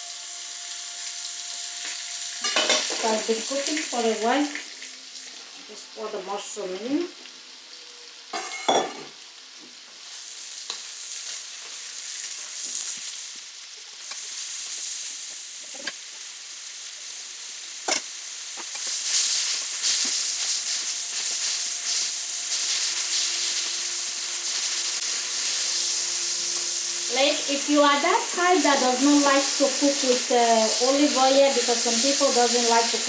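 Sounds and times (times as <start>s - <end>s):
mushrooms sizzling in oil: 0.0s - 33.0s.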